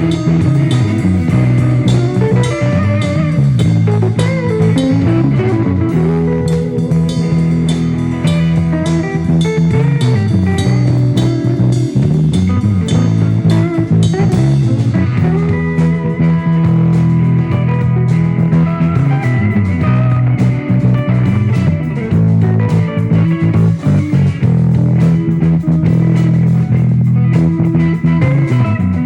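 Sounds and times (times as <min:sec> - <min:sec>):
bass guitar: 0:00.0 - 0:29.0
drum kit beat: 0:00.0 - 0:29.0
electric guitar: 0:00.0 - 0:29.0.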